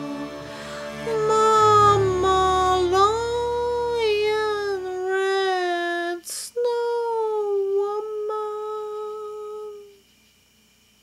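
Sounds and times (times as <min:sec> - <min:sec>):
woman humming a long note: 0:00.0 - 0:10.0
faint hiss: 0:00.0 - 0:11.0.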